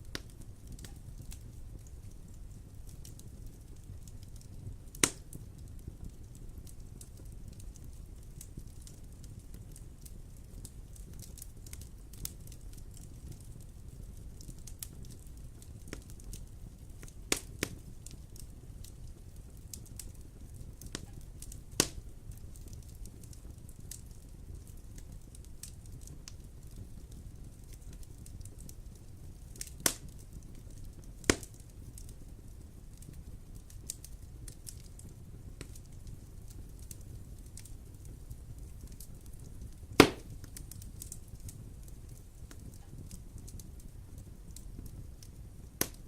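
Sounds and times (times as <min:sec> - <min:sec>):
sharp pops from fire: 0:00.0 - 0:46.0
wood fire crackling: 0:00.0 - 0:46.0.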